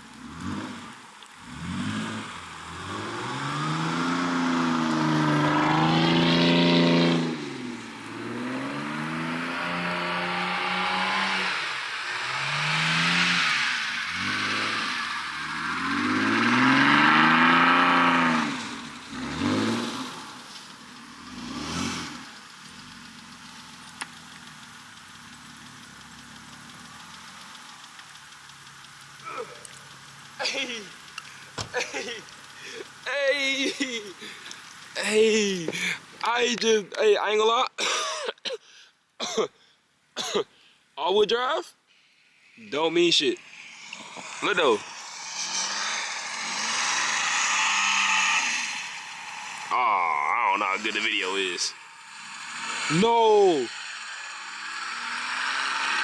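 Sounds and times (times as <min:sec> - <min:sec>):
car engine revving: 0:00.0 - 0:36.8, 0:42.6 - 0:56.0.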